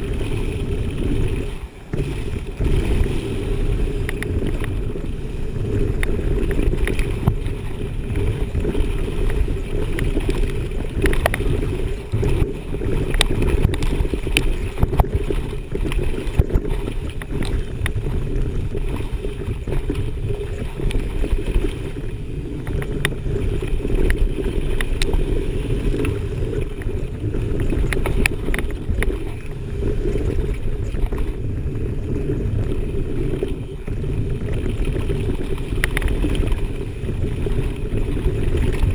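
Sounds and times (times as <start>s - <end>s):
tyre and wind rumble: 0.0s - 38.9s.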